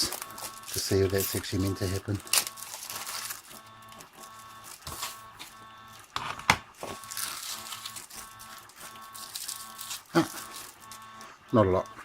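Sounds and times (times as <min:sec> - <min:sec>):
handling noises on desk: 0:00.0 - 0:11.3.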